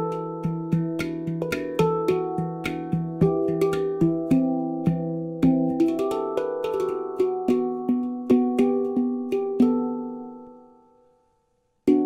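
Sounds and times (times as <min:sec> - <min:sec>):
handpan notes ringing: 0:00.0 - 0:11.2.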